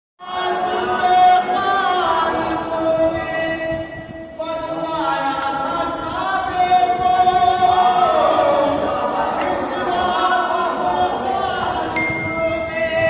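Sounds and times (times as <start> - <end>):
man singing into a microphone: 0.2 - 13.0.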